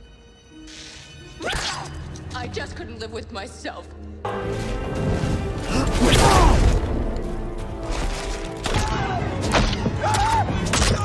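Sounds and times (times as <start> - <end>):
film soundtrack music: 0.0 - 11.0.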